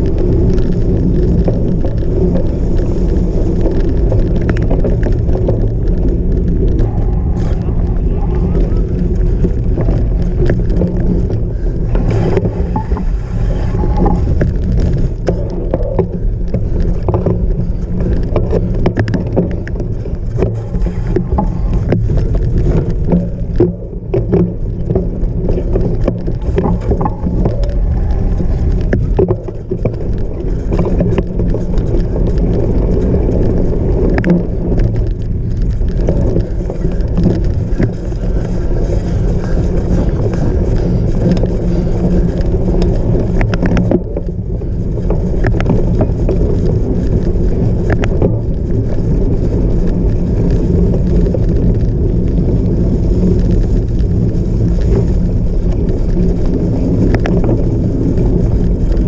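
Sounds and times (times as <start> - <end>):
wind and ground rumble: 0.0 - 59.0.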